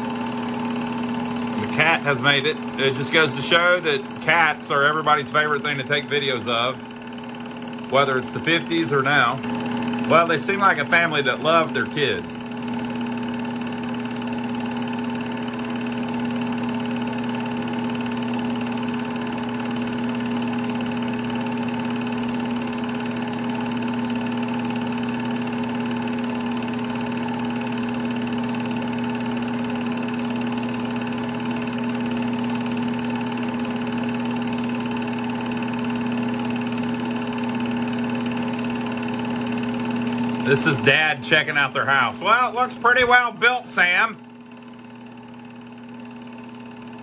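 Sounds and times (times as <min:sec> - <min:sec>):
movie projector running: 0:00.0 - 0:47.0.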